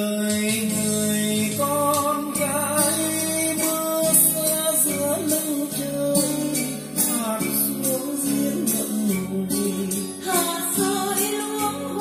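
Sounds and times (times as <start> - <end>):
guitar accompaniment: 0.0 - 12.0
person singing: 0.0 - 12.0.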